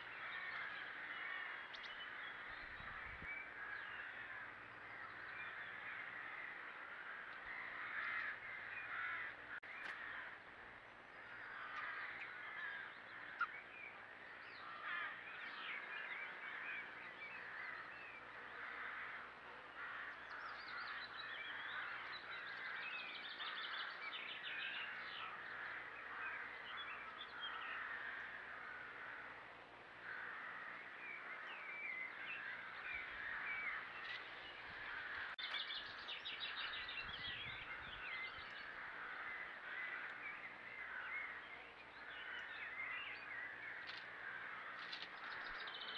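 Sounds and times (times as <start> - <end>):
crows cawing: 0.0 - 37.0, 37.6 - 45.9
woodland birdsong: 0.0 - 45.9.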